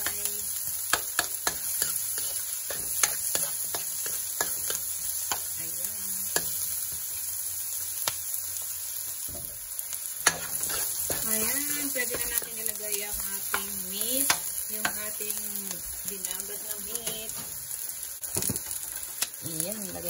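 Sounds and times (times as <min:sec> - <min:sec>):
garlic and onion sizzling in oil: 0:00.0 - 0:20.0.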